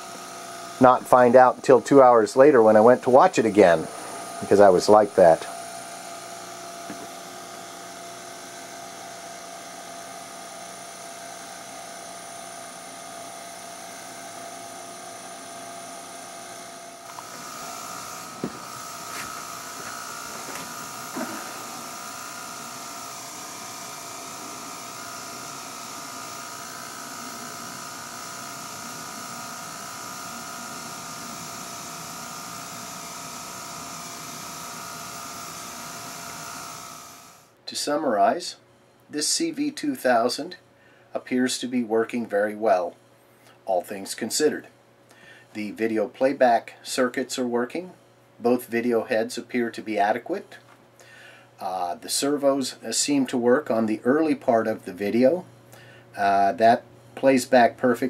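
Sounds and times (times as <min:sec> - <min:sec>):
tape recorder mechanical whine: 0:00.0 - 0:58.0.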